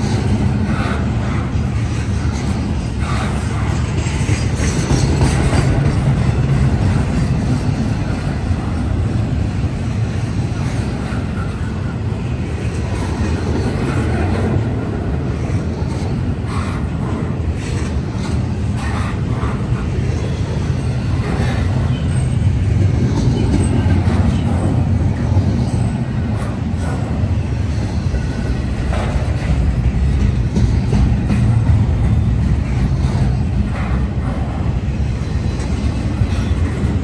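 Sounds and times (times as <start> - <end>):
train cars rumbling past: 0.0 - 37.0
wheels clicking on rails: 0.0 - 37.0.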